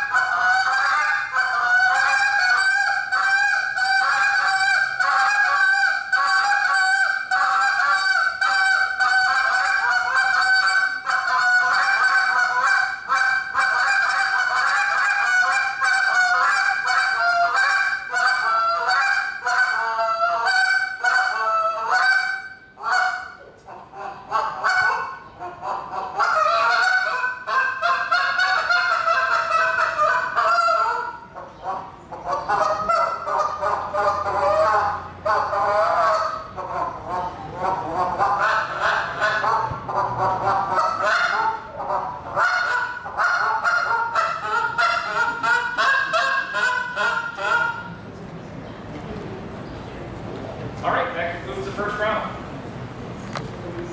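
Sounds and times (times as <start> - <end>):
goose call honks and clucks: 0.0 - 48.0.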